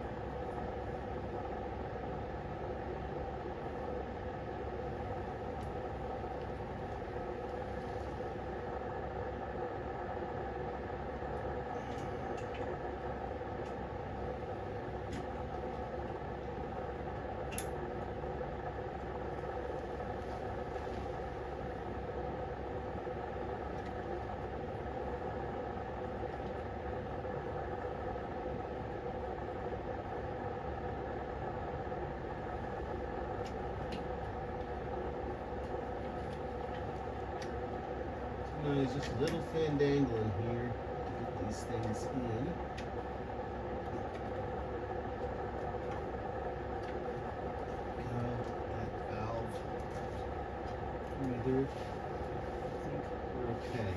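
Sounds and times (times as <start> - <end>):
workshop mechanical hum: 0.0 - 53.9.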